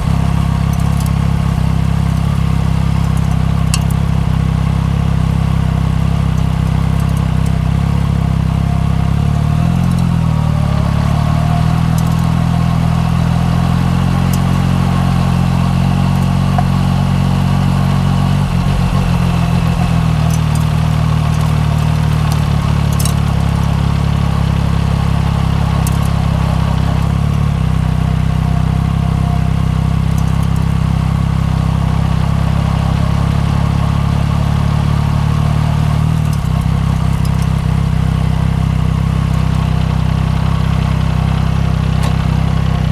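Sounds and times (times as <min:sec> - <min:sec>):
motorcycle engine running at low revs: 0:00.0 - 0:42.9.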